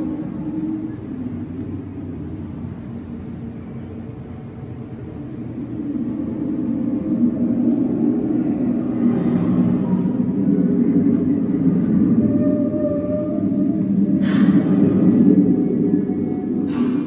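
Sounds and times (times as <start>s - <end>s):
low droning tones: 0.0s - 17.0s
low rumbling hum: 0.0s - 17.0s.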